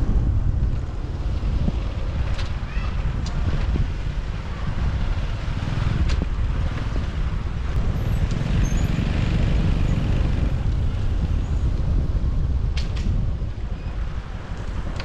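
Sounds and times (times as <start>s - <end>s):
traffic noise: 0.0s - 15.0s
wind rumble on microphone: 0.0s - 15.0s.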